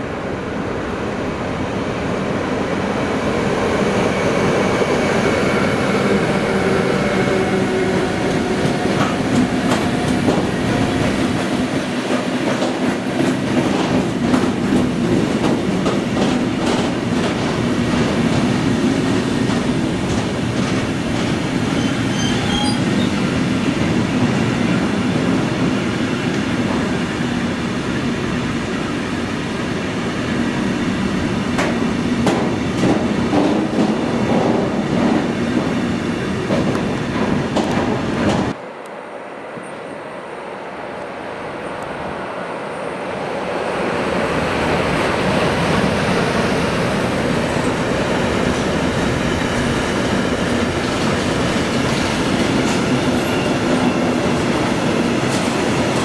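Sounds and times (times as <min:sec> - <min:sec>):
train wheels on rails: 0:00.7 - 0:38.9, 0:42.9 - 0:56.0.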